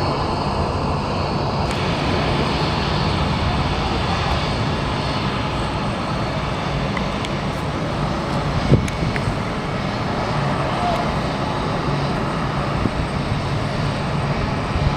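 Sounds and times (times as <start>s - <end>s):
jet engines roaring: 0.0s - 14.9s.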